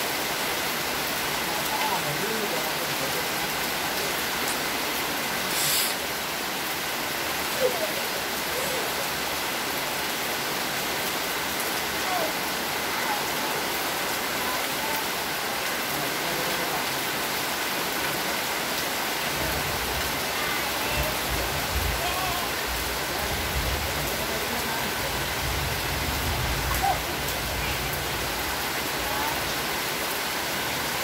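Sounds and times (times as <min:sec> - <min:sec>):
rain on wet paving and foliage: 0:00.0 - 0:31.0.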